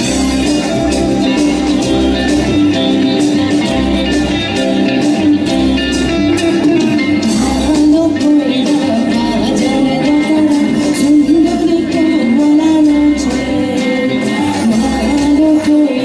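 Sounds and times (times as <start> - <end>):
keyboard bass and drums: 0.0 - 15.9
electric guitar: 0.0 - 16.0.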